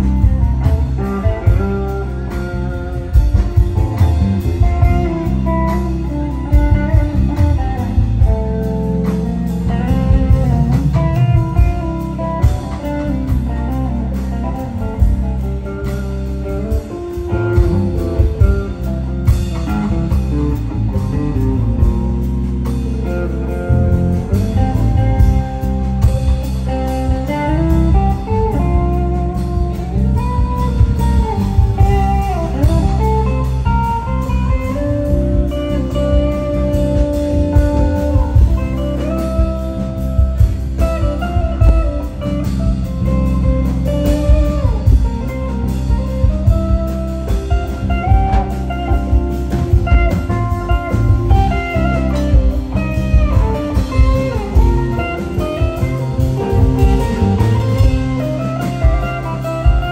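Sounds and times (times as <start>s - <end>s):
electric guitar lead line: 0.0s - 59.9s
rock band playing: 0.0s - 59.9s.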